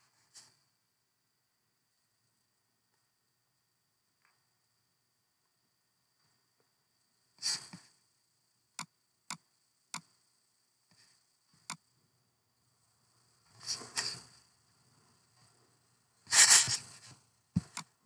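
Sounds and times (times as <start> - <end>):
faint electronic hiss: 0.0 - 18.0.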